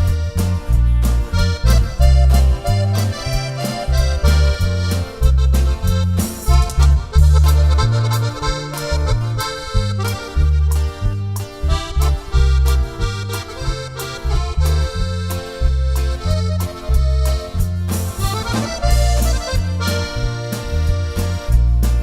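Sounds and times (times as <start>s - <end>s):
accordion melody: 0.0s - 22.0s
drums: 0.0s - 22.0s
electric bass line: 0.0s - 22.0s.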